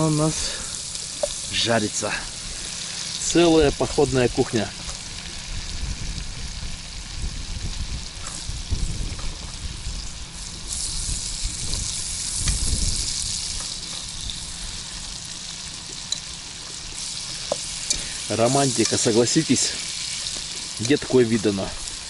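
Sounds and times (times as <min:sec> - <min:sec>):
leeks sizzling in a frying pan: 0:00.0 - 0:22.0.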